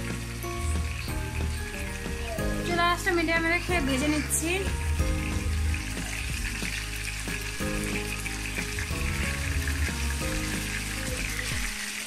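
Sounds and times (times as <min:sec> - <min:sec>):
background music: 0:00.0 - 0:12.0
chicken sizzling in oil: 0:00.0 - 0:12.0.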